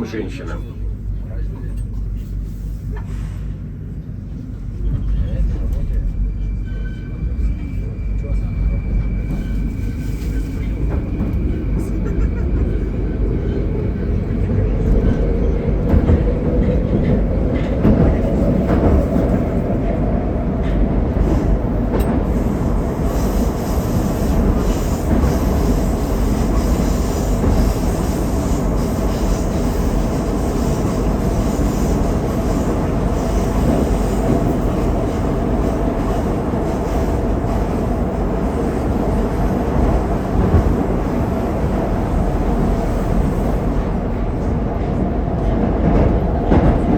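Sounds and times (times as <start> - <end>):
wheels rumbling on rails: 0.0 - 46.9.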